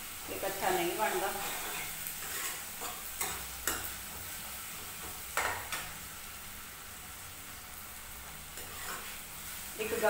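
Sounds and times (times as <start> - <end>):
vegetables sizzling in a saucepan: 0.0 - 10.0.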